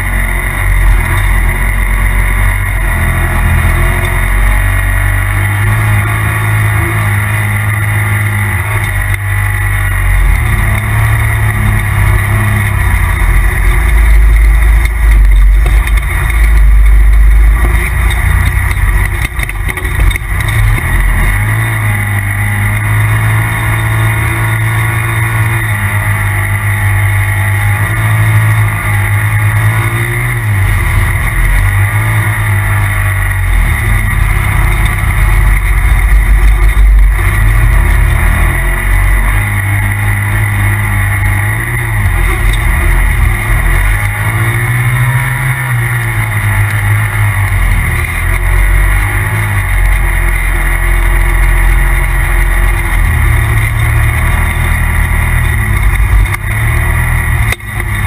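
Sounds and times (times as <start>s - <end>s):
turbocharged engine revving: 0.0s - 58.0s.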